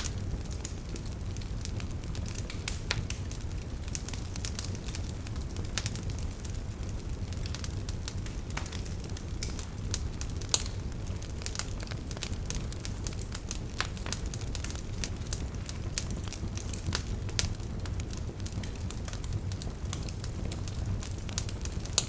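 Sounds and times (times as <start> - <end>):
firewood crackling and popping: 0.0 - 22.0
low rumble of flame: 0.0 - 22.0.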